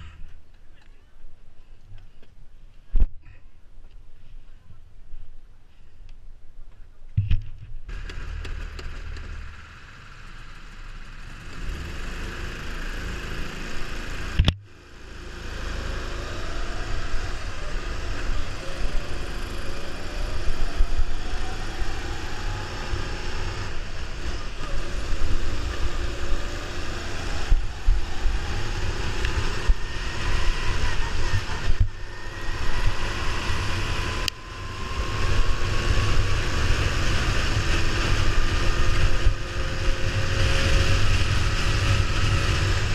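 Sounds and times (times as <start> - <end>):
go-kart engine running: 7.9 - 42.9.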